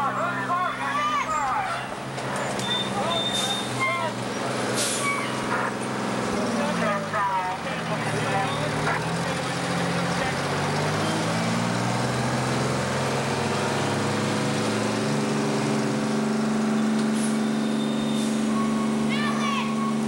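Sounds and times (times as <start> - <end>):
fire engine engine droning: 0.0 - 20.0.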